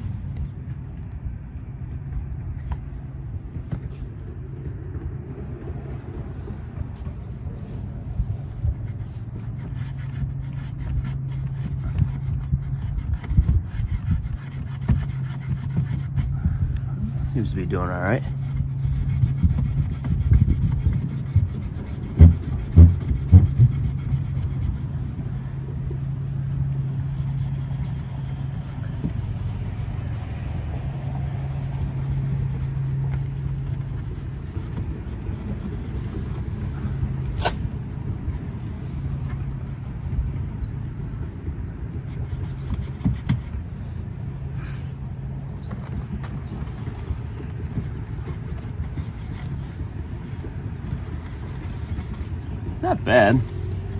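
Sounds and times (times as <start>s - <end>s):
steady low hum: 0.0s - 53.9s
rag rubbing on metal: 6.9s - 53.9s.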